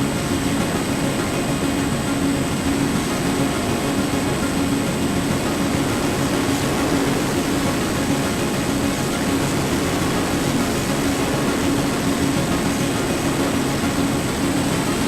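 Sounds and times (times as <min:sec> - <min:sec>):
electric motor and propeller humming: 0:00.0 - 0:15.0
rushing air: 0:00.0 - 0:15.0.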